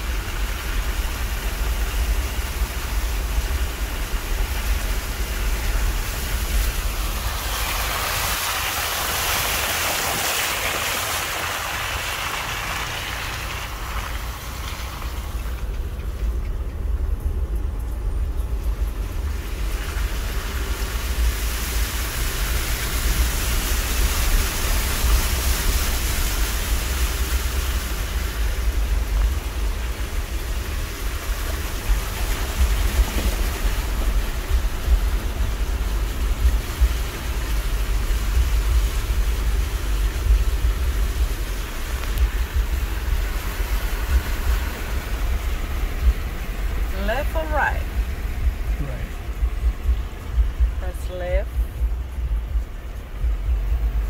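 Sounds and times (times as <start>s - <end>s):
vehicle low rumble: 0.0s - 54.0s
water swishing around tyres: 0.0s - 54.0s.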